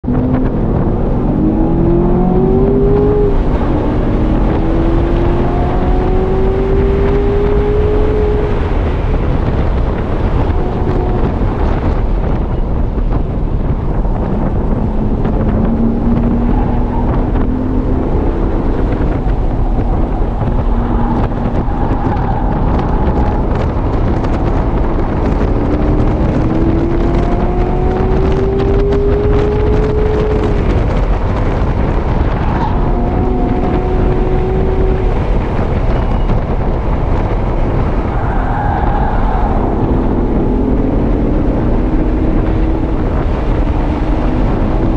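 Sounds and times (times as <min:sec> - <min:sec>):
car engine accelerating: 0:00.0 - 0:44.9
loud wind noise: 0:00.0 - 0:44.9
road noise: 0:00.0 - 0:44.9.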